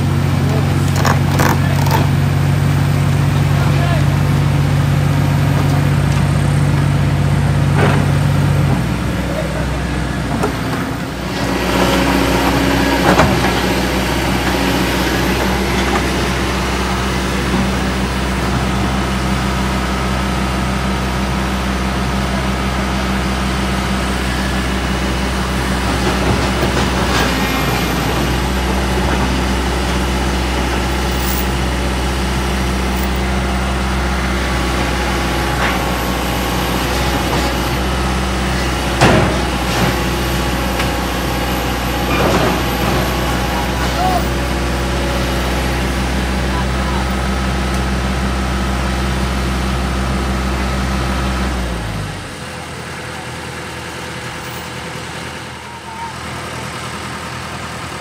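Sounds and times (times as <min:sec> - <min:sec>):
heavy truck engine running: 0:00.0 - 0:58.0.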